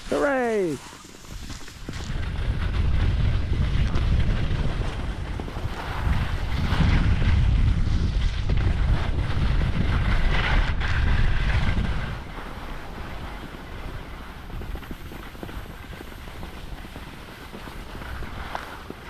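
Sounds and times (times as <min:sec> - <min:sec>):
skis scraping on snow: 0:00.0 - 0:19.0
wind buffeting microphone: 0:00.0 - 0:19.0.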